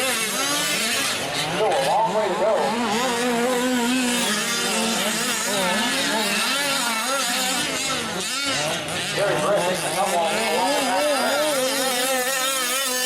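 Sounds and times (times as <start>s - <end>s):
small two-stroke engines racing: 0.0s - 13.0s.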